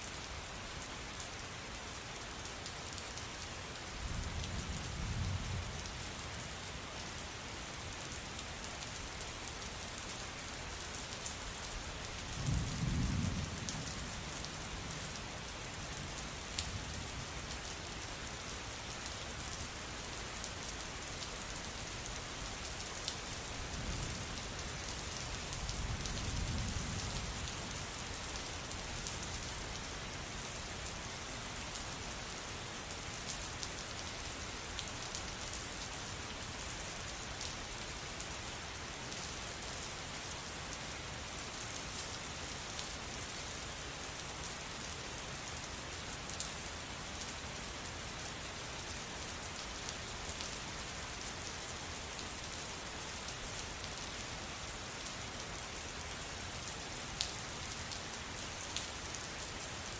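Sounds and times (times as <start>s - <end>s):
steady rain with drop ticks: 0.0s - 59.9s.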